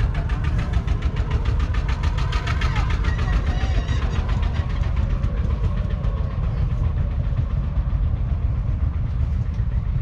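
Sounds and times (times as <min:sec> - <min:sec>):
tractor diesel engine knocking: 0:00.0 - 0:10.0.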